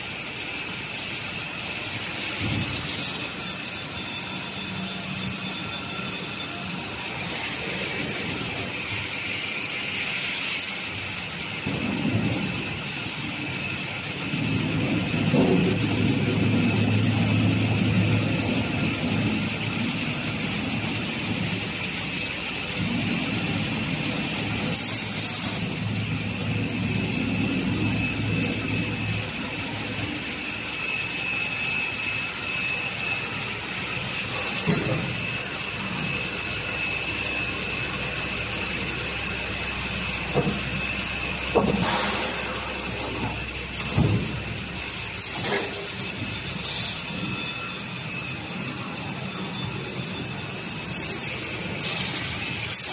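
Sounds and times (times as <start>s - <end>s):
panel saw blade whine: 0.0s - 52.9s.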